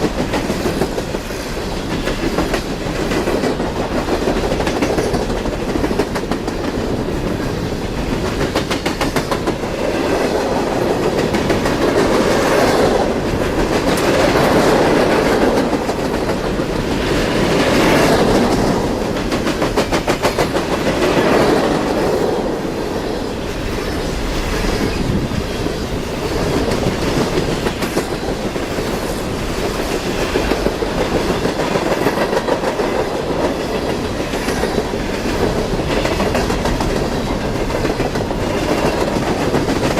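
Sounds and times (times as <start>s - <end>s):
wheels clicking over rail joints: 0.0s - 22.5s, 24.2s - 39.9s
train cars rumbling past: 0.0s - 39.9s.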